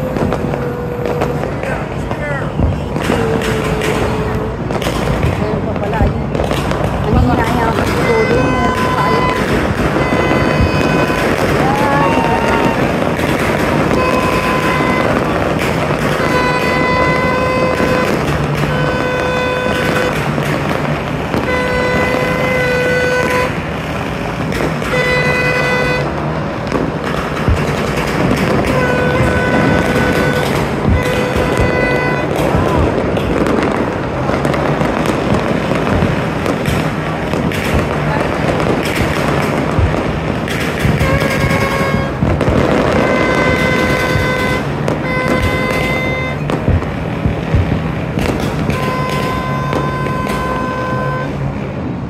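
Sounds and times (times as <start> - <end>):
distant fireworks and firecrackers: 0.0 - 52.0
horn blasts: 0.0 - 52.0.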